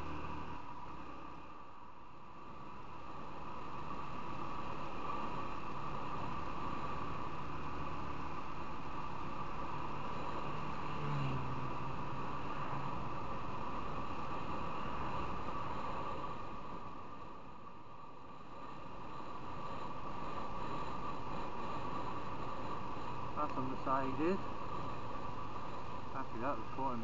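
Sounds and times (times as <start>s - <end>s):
wind and road noise: 0.0s - 27.0s.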